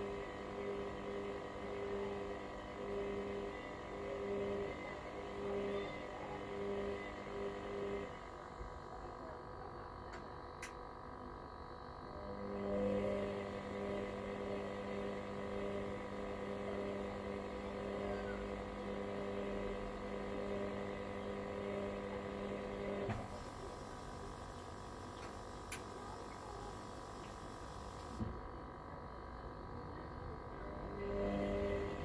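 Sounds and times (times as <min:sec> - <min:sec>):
faint electrical hum: 0:00.0 - 0:32.0
washer-dryer motor hum: 0:00.0 - 0:32.0.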